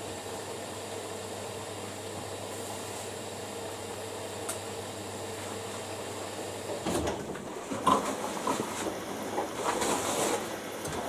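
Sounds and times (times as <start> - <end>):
washing machines running: 0.0 - 11.0.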